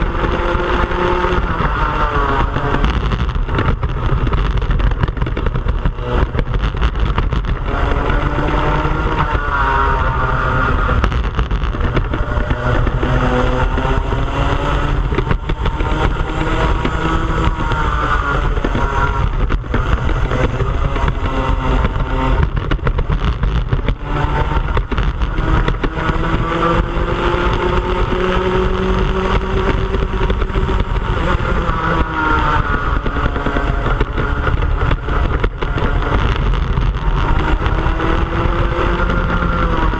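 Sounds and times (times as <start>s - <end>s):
kart engine revving: 0.0s - 39.9s
low rumble: 0.0s - 39.9s.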